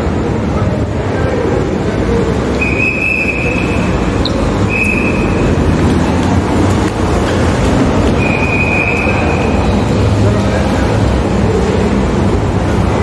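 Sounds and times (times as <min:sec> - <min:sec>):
cars idling and moving: 0:00.0 - 0:13.0.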